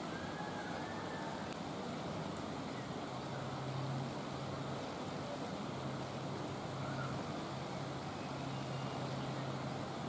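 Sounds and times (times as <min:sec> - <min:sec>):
steady rain: 0:00.0 - 0:10.0.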